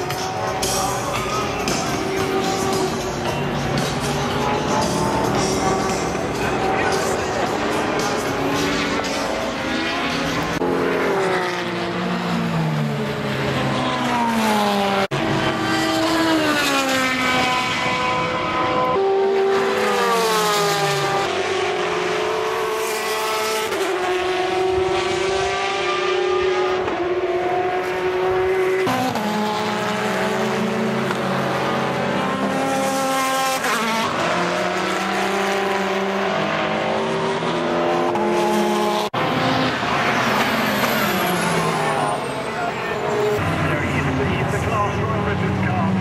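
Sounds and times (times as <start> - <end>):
race car engines passing: 0.0 - 46.0.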